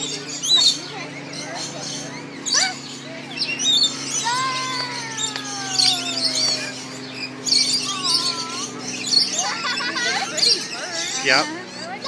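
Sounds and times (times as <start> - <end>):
lorikeets chattering: 0.0 - 12.0
steady low hum: 0.0 - 12.0.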